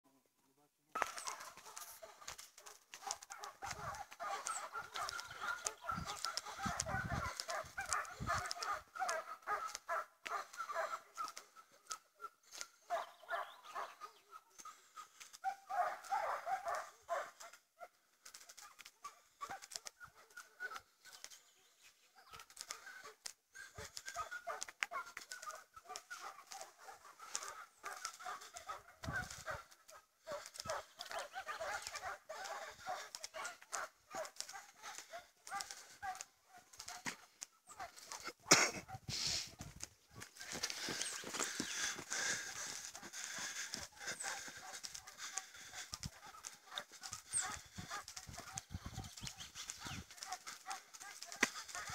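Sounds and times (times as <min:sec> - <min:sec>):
hounds baying: 0:01.0 - 0:51.9.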